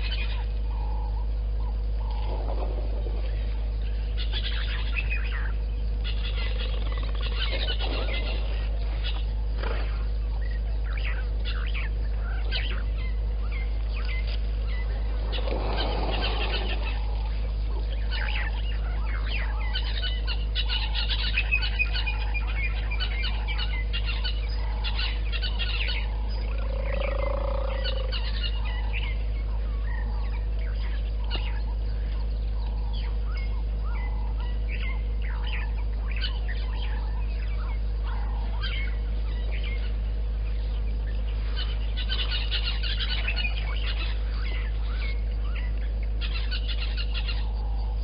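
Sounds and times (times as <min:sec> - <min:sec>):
birds calling and chirping: 0:00.0 - 0:48.0
steady low hum: 0:00.0 - 0:48.0.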